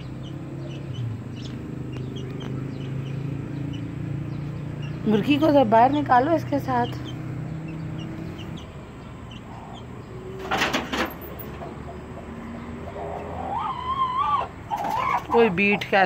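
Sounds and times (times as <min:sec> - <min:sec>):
chick peeping: 0:00.0 - 0:05.4, 0:06.8 - 0:10.2, 0:11.6 - 0:16.0.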